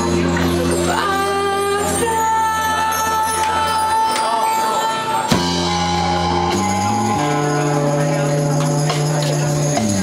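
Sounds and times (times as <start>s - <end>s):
rock band playing live: 0.0s - 10.0s.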